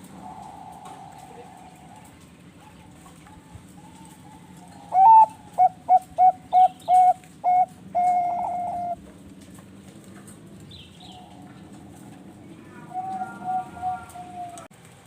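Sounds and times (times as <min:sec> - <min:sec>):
dove cooing song: 0:00.0 - 0:09.0, 0:10.4 - 0:14.7
faint coos of other doves: 0:00.0 - 0:09.0, 0:11.0 - 0:14.7.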